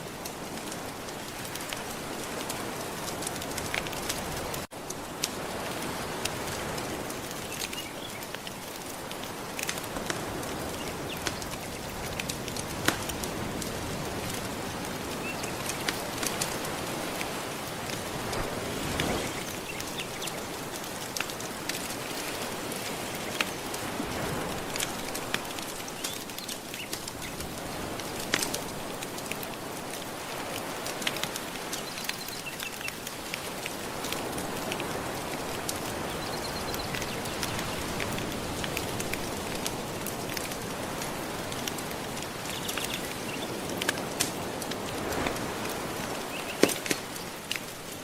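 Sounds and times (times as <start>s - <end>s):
ocean waves washing on shore: 0.0s - 48.0s
wood fire crackling: 0.0s - 48.0s.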